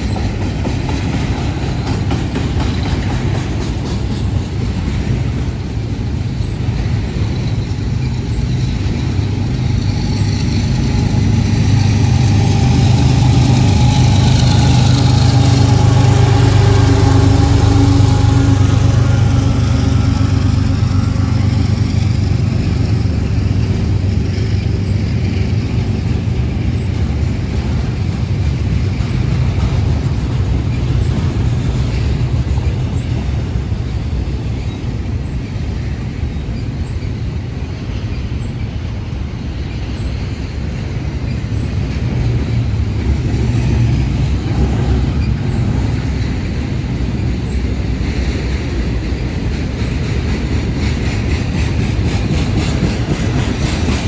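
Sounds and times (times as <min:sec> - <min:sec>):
train cars rolling past: 0:00.0 - 0:54.0.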